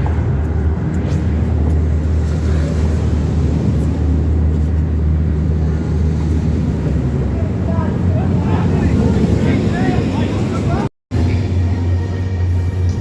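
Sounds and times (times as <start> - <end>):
wind rushing over microphone: 0.0 - 11.9
roller coaster rumbling on track: 0.0 - 13.0.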